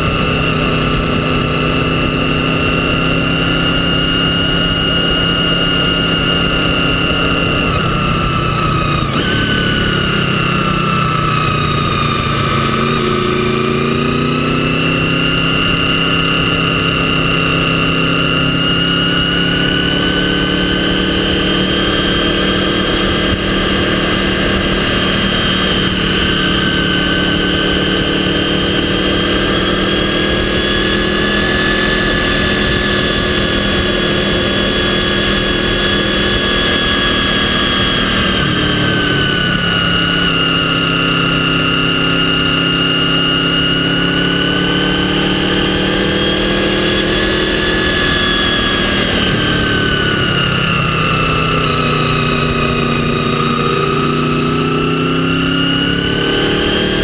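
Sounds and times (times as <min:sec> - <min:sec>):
motorcycle engine whine: 0:00.0 - 0:57.0
wind and road noise: 0:00.0 - 0:57.0.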